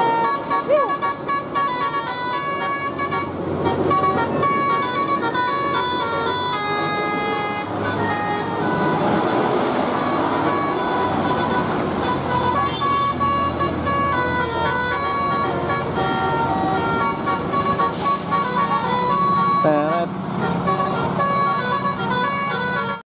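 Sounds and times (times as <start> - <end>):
diesel engine running: 0.0 - 23.0
musical multi-tone bus horn: 0.0 - 23.0.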